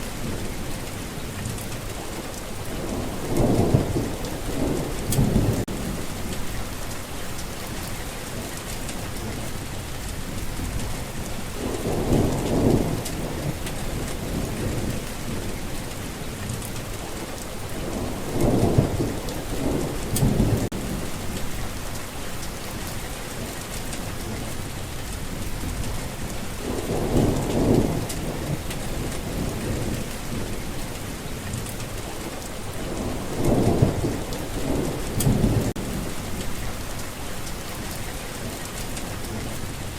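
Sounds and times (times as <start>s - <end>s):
steady rain falling: 0.0s - 39.9s
thunder rolling: 2.7s - 16.9s, 17.8s - 30.8s, 31.6s - 39.9s.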